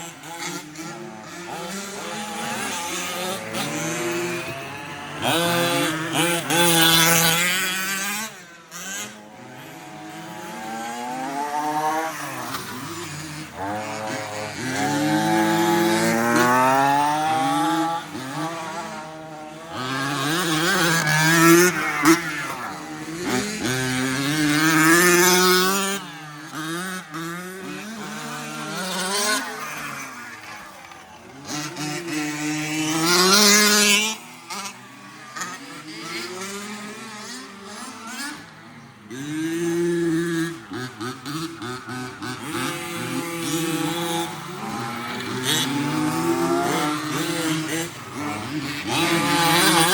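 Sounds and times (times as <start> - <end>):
rc truck motors revving: 0.0 - 49.9.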